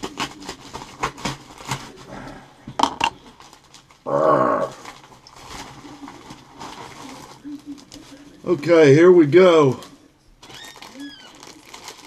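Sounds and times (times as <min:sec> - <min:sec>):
plastic packaging crinkling: 0:00.0 - 0:02.2, 0:03.0 - 0:12.0.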